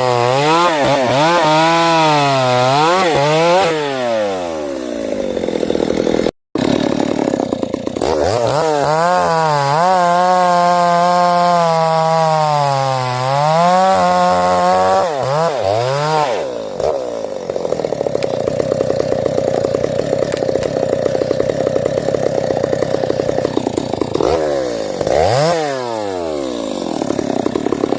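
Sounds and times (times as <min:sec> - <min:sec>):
chainsaw revving: 0:00.0 - 0:27.9.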